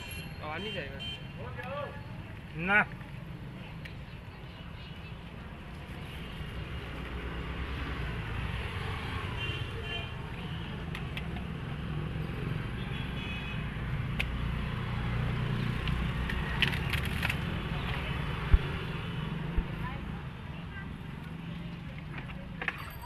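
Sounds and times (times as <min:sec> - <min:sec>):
low rumble of traffic: 0:00.0 - 0:23.0.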